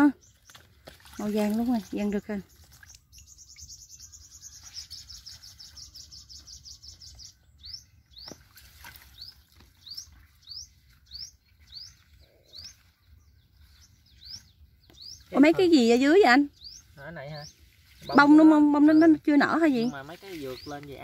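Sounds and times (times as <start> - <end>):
bird trilling and chirping: 1.2 - 21.0.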